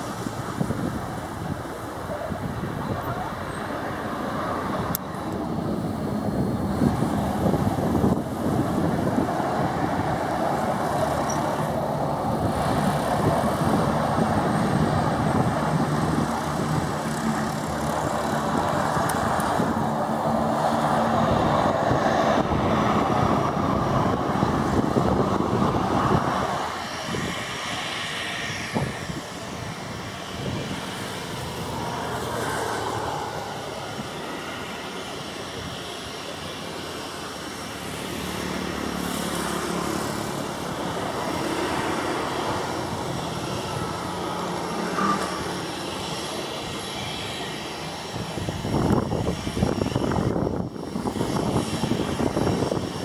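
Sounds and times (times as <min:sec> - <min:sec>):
propeller airplane engine drone: 0:00.0 - 0:53.0.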